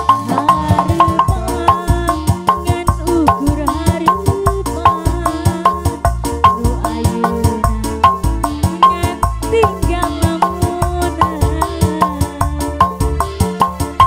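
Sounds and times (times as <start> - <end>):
woman singing: 0.0 - 13.2
busy drum rhythm: 0.0 - 14.0
keyboard: 0.0 - 14.0.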